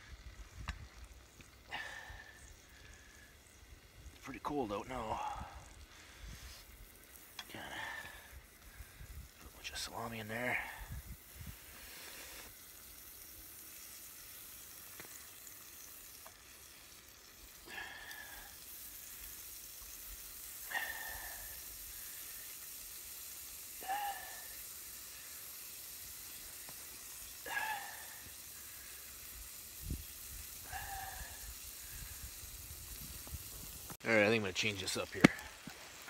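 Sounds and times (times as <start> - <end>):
salami sizzling in a pan: 0.0 - 36.0.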